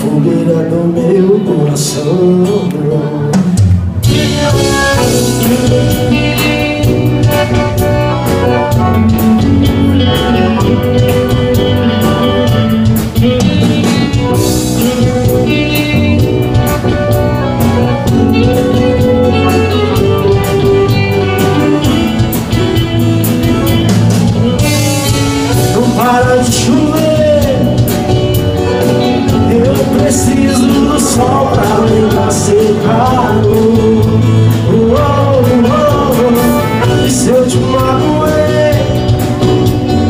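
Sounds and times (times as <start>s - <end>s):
band playing a melody: 0.0s - 40.0s
steady drum beat: 3.4s - 40.0s.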